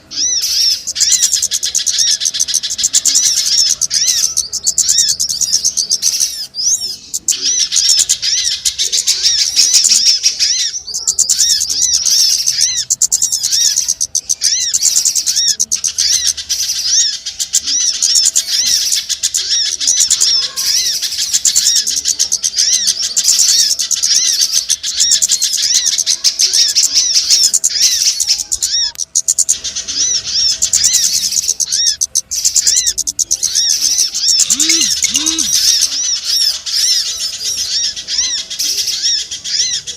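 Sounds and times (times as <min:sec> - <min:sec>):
many small birds twittering: 0:00.0 - 0:39.9.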